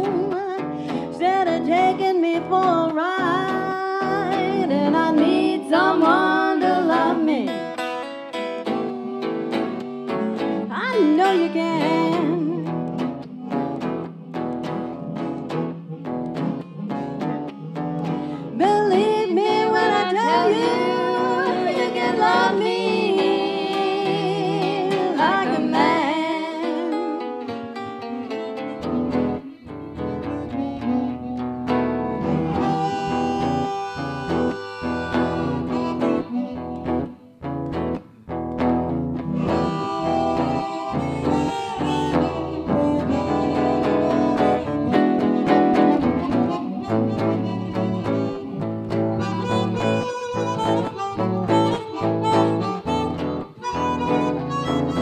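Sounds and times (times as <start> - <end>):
electric guitar accompaniment: 0.0 - 55.0
harmonica solo: 0.0 - 55.0.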